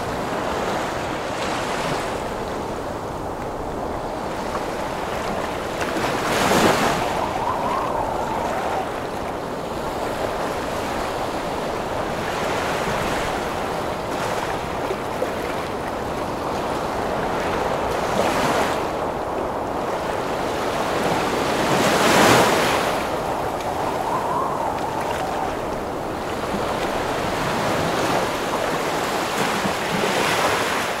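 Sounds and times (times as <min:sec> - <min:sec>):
ocean surf rushing: 0:00.0 - 0:31.0
strong wind howling: 0:00.0 - 0:31.0
waves breaking: 0:00.0 - 0:31.0.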